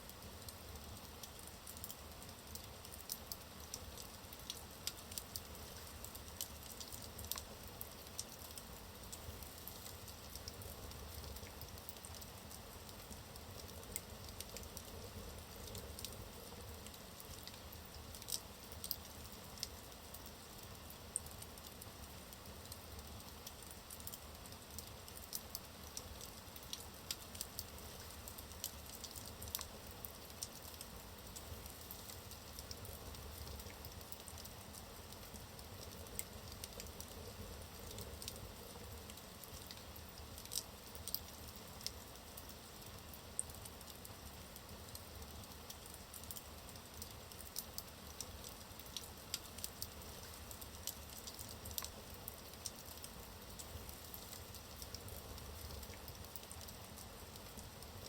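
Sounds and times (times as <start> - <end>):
wood fire crackling and popping: 0.1 - 58.0.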